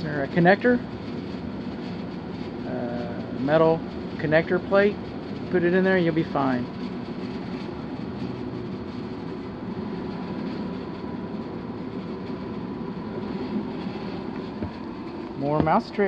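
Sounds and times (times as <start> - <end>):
air handler rushing hum: 0.0 - 16.0
faint steady whine: 0.0 - 16.0.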